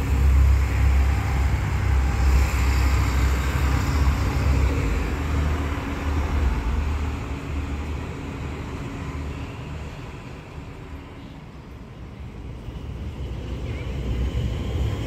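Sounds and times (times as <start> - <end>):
train rumbling across bridge: 0.0 - 15.0.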